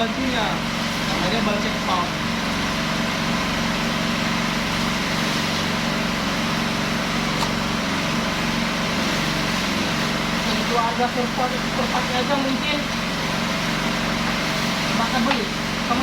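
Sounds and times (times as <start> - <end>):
small fire pump engine running: 0.0 - 16.0.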